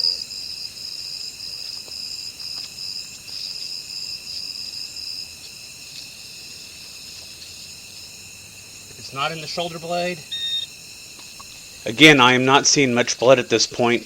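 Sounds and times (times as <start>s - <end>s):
crickets chirping: 0.0s - 14.0s
low insect tones: 0.0s - 14.0s.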